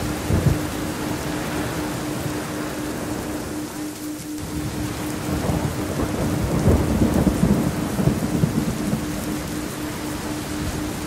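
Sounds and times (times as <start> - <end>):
low rumble of thunder: 0.0 - 3.8, 4.4 - 11.0
faint pulsing tone: 0.0 - 11.0
steady rain: 0.0 - 11.0.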